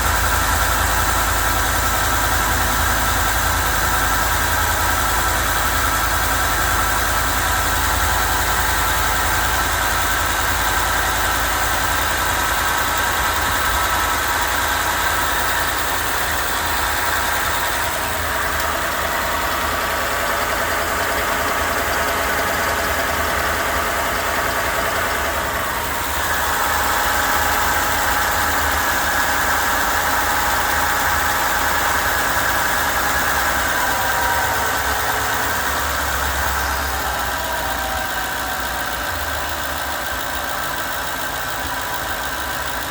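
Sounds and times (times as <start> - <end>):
truck engine idling: 0.0 - 42.9.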